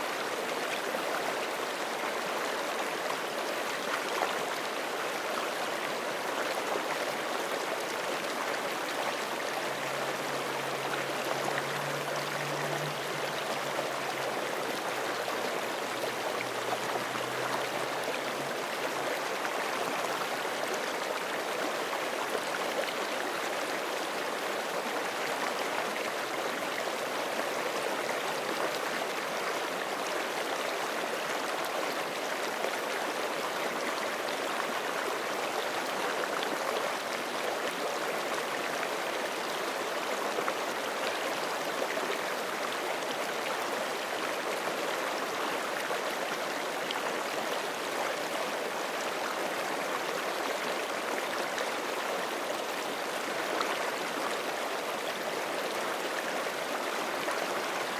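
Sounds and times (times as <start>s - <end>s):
creek flowing: 0.0s - 57.9s.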